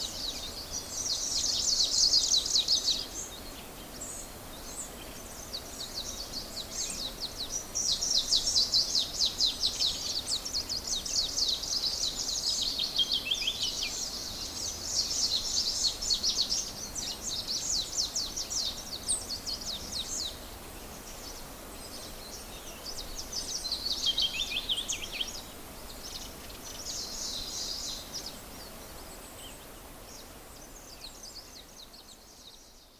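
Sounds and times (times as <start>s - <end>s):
faint background hiss: 0.0s - 32.9s
small birds chirping: 0.0s - 32.9s.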